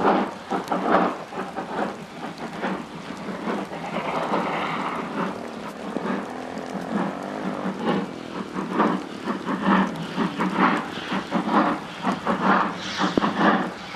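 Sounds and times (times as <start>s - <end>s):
steam hissing: 0.0s - 13.9s
steam locomotive exhaust beats: 0.0s - 13.9s.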